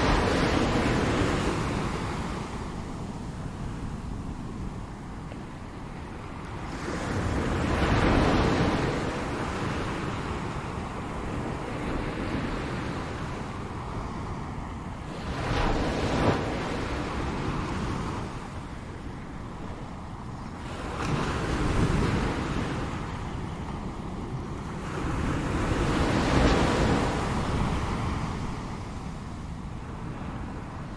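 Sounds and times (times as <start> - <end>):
ocean waves breaking on shore: 0.0 - 30.9.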